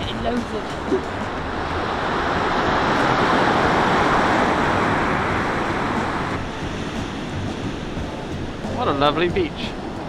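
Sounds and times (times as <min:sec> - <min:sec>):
wave breaking on beach: 0:00.5 - 0:10.0.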